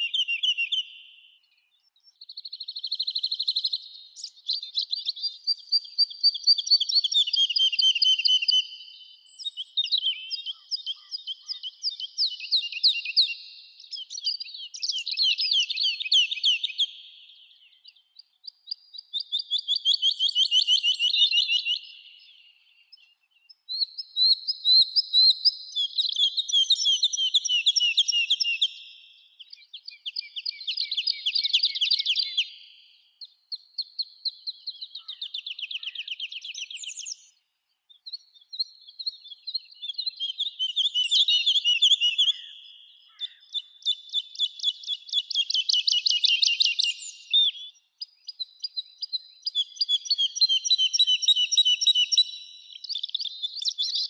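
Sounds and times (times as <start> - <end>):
songbirds singing trilled songs: 0.0 - 54.0.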